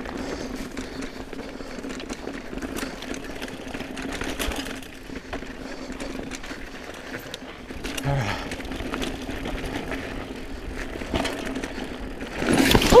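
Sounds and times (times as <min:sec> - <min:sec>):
bike knocking and rattling: 0:00.0 - 0:13.0
bike tyres on dirt: 0:00.0 - 0:13.0.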